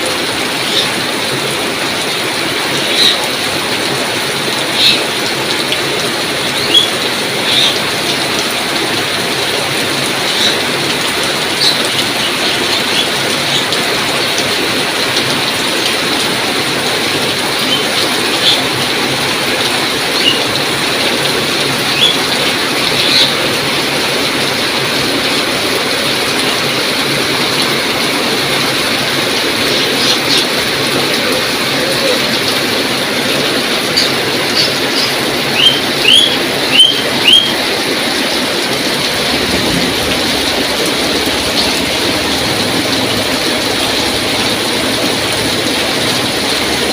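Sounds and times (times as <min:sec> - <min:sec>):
heavy rain: 0:00.0 - 0:46.9.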